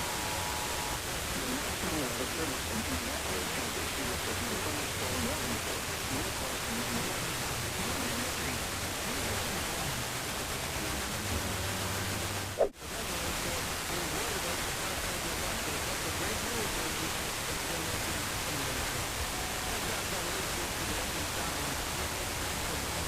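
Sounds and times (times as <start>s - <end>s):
faint voice: 0.0s - 23.0s
radio static hiss: 0.0s - 23.0s.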